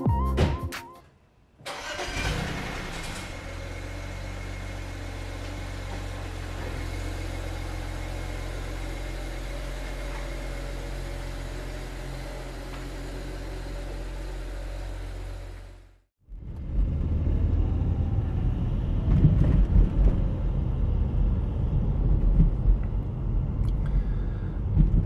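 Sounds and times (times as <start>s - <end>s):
car engine starting and idling: 1.6s - 25.0s.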